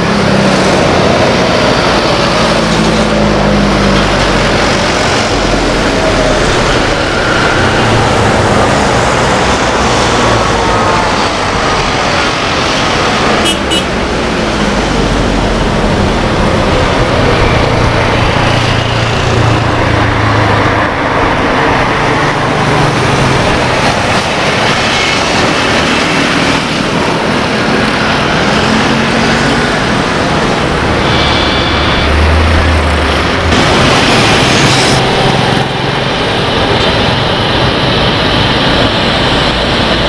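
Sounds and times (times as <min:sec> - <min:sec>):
jet engine noise: 0:00.0 - 0:40.0.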